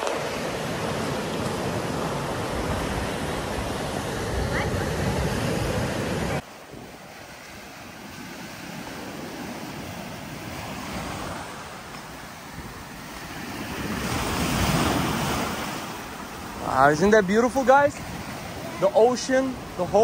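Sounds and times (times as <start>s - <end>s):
ocean surf washing onto beach: 0.0s - 20.0s.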